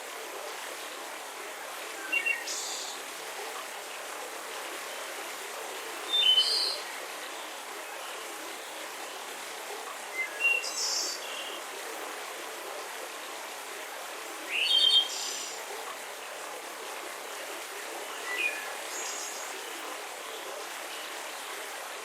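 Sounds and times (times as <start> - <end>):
gentle breeze hiss: 0.0 - 22.0.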